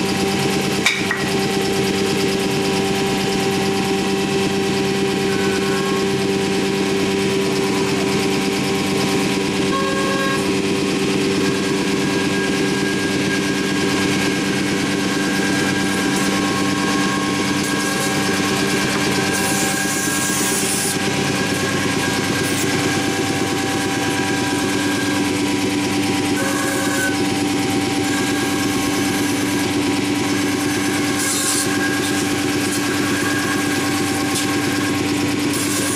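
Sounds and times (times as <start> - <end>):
cnc router drilling wood: 0.0 - 35.9.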